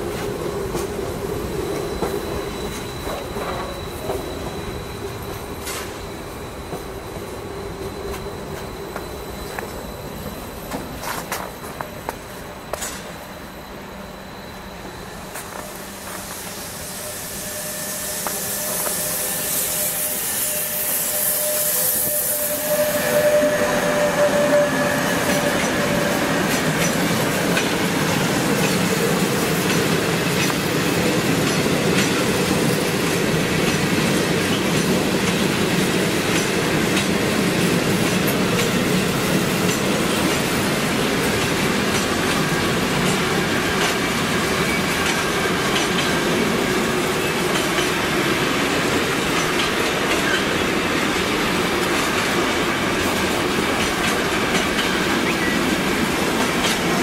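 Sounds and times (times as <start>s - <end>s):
freight train wheels clacking: 0.0s - 13.3s, 15.2s - 57.0s.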